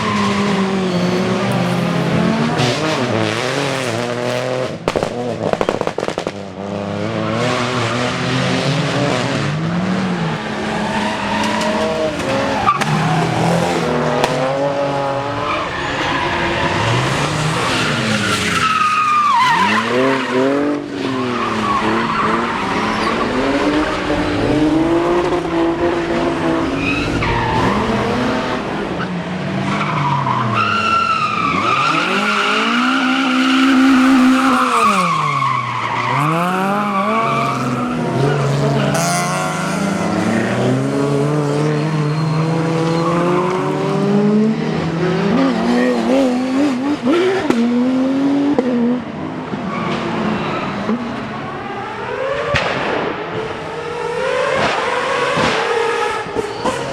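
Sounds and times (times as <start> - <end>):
rally car engine revving: 0.0 - 56.9
tyres skidding: 0.0 - 56.9.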